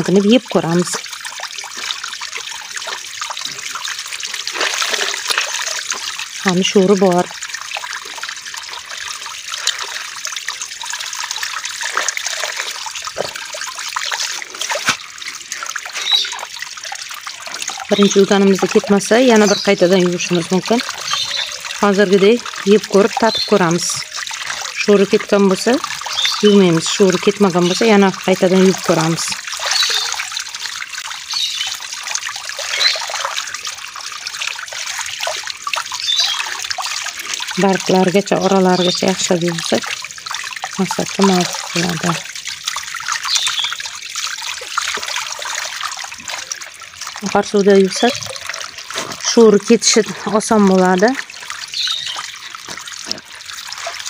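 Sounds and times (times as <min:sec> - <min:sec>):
tap water splashing: 0:00.0 - 0:54.0.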